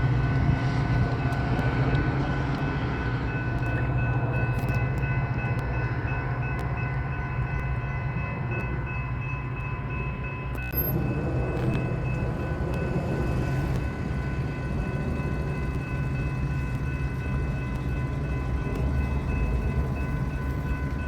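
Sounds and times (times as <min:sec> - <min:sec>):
diesel train engine drone: 0:00.0 - 0:21.0.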